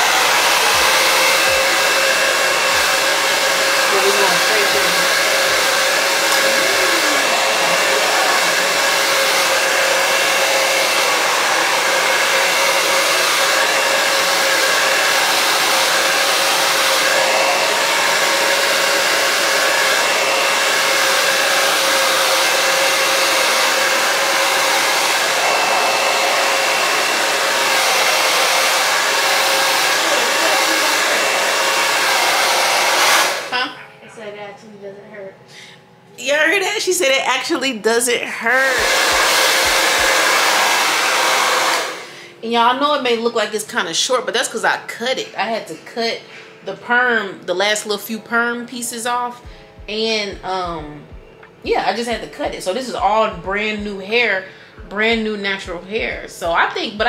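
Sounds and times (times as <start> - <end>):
hair dryer running: 0.0 - 33.8, 36.2 - 57.0.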